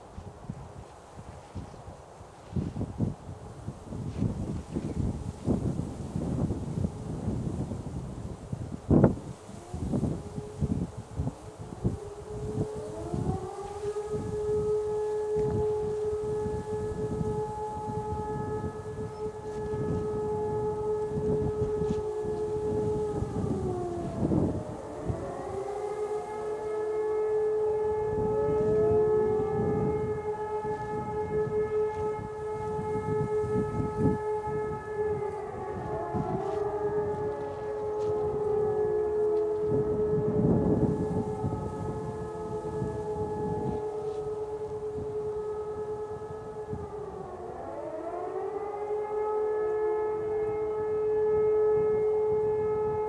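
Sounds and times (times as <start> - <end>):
motor sirens howling: 0.0 - 53.0
wind on microphone: 0.0 - 53.0.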